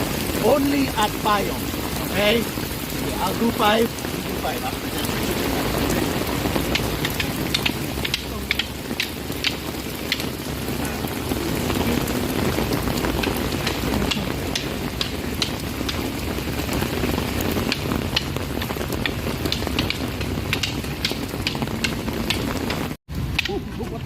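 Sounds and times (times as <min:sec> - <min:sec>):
steady rain: 0:00.0 - 0:24.0
drops ticking: 0:00.1 - 0:24.0.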